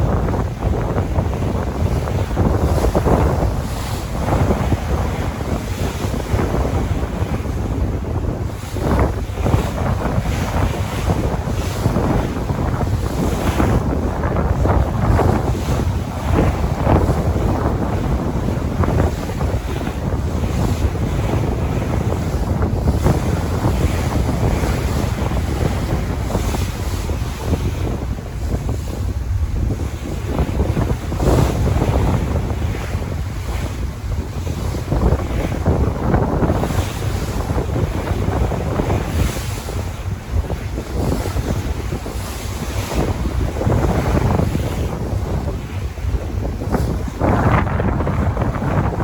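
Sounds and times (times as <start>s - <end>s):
sea waves washing: 0.0s - 49.0s
wind buffeting microphone: 0.0s - 49.0s.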